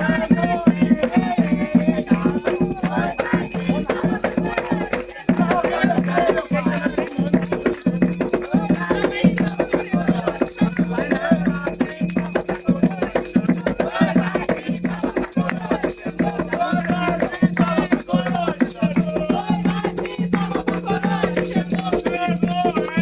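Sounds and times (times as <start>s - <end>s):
fast percussion: 0.0s - 23.0s
voices singing a chant: 0.0s - 23.0s.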